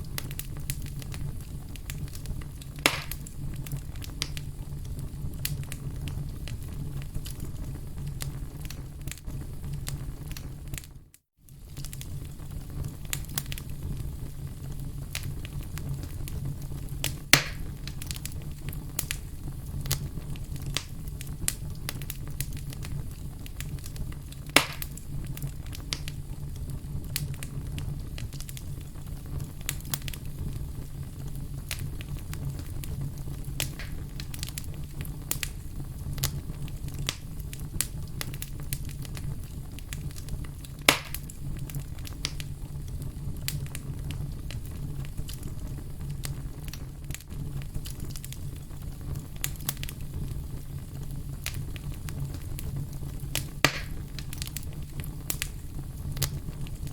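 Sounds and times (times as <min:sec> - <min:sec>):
fire crackling: 0:00.0 - 0:56.9
flame rumbling: 0:00.0 - 0:56.9
loud pops of fire: 0:00.0 - 0:56.9.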